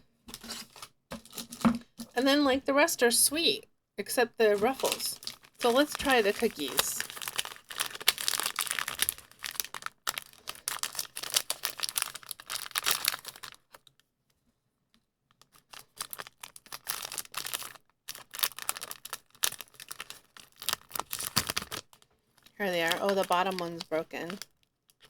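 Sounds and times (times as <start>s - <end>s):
plastic wrapper crinkling: 0.3s - 1.7s, 4.5s - 14.1s, 15.3s - 25.0s.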